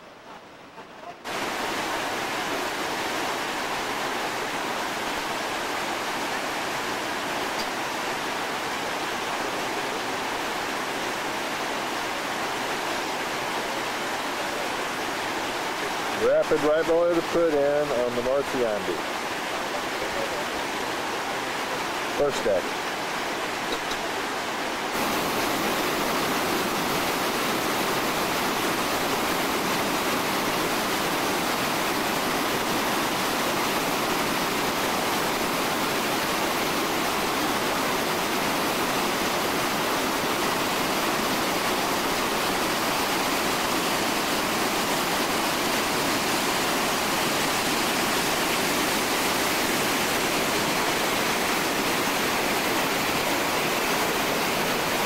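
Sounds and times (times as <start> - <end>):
whitewater rushing over boulders: 0.0 - 55.0.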